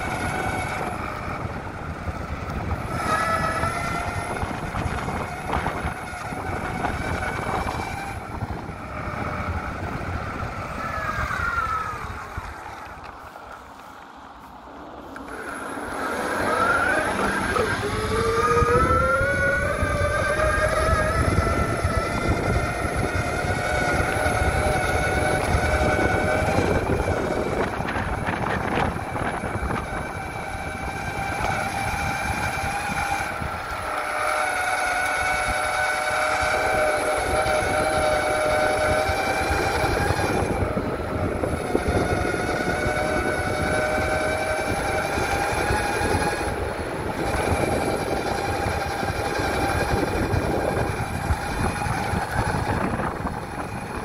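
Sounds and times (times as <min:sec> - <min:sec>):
electric motors whining: 0:00.0 - 0:54.0
wheels rumbling over ground: 0:00.0 - 0:54.0.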